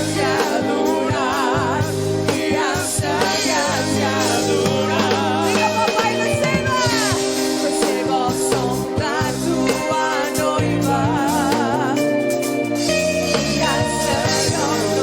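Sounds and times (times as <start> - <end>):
woman singing with vibrato: 0.0 - 12.2, 13.2 - 15.0
band with bass and drums: 0.0 - 15.0.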